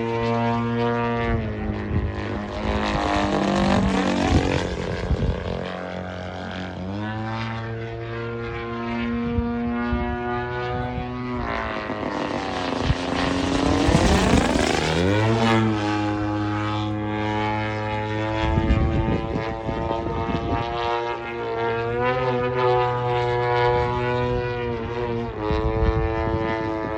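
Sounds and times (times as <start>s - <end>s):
model airplane motor and propeller: 0.0s - 26.9s.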